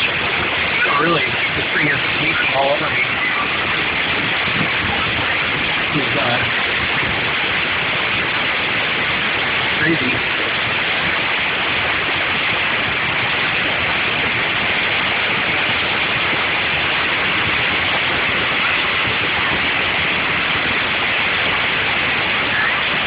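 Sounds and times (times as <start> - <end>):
heavy rain on car roof: 0.0 - 23.0.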